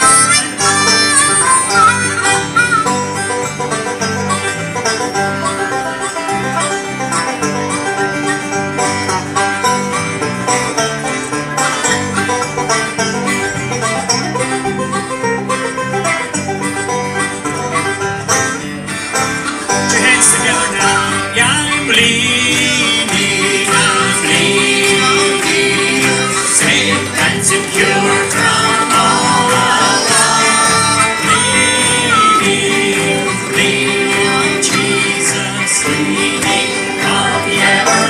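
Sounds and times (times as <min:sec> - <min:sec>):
banjo picking: 0:00.0 - 0:38.0
bluegrass band playing: 0:00.0 - 0:38.0.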